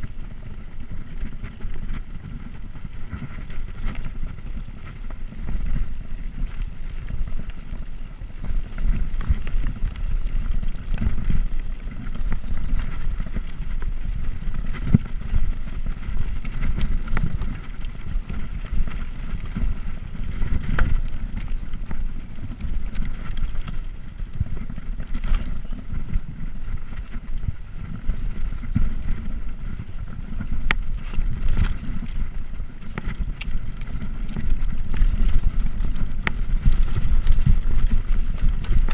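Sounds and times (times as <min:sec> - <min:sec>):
bicycle clicks and rattles: 0:00.0 - 0:38.9
wind buffeting microphone: 0:00.0 - 0:38.9.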